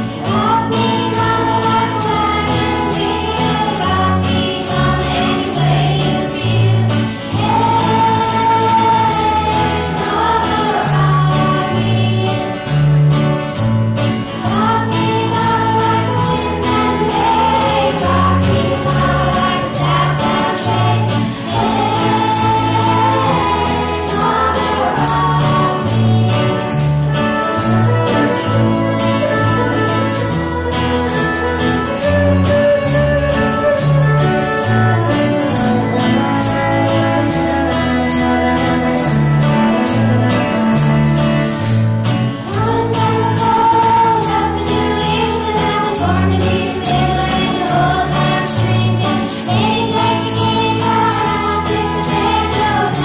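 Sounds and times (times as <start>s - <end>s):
person singing: 0.0s - 13.4s, 14.4s - 41.3s, 42.4s - 53.0s
folk band playing: 0.0s - 53.0s
tambourine shaken: 0.0s - 53.0s.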